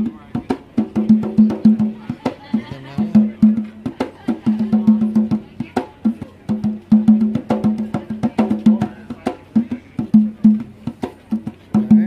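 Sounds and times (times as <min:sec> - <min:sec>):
conga drum played by hand: 0:00.0 - 0:12.0.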